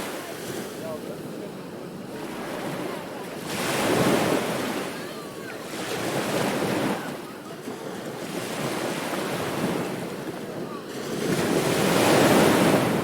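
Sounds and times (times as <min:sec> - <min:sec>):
ocean surf washing: 0:00.0 - 0:13.0
waves breaking: 0:00.0 - 0:13.0.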